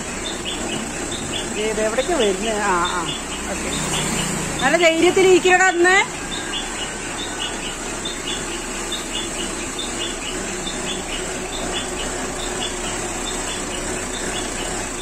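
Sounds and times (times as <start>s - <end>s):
insects chirping: 0.0s - 5.4s, 6.1s - 15.0s.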